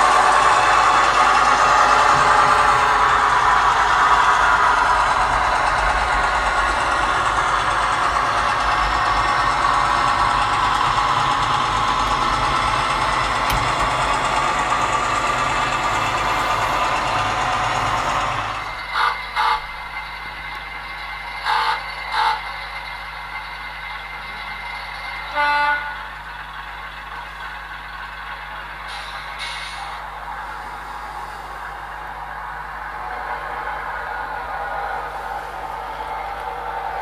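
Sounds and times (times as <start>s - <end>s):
model locomotive engine running: 0.0s - 37.0s.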